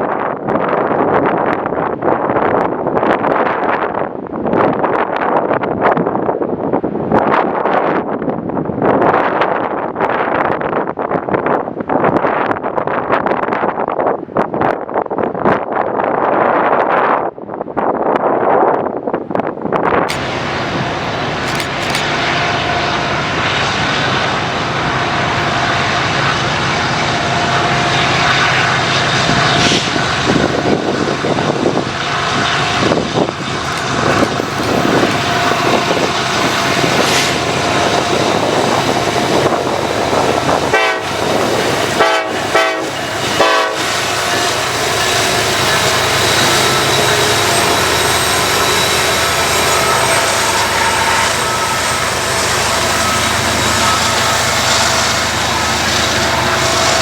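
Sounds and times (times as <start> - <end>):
freight train rumble and rattle: 0.0 - 57.0
wind noise on microphone: 0.0 - 57.0.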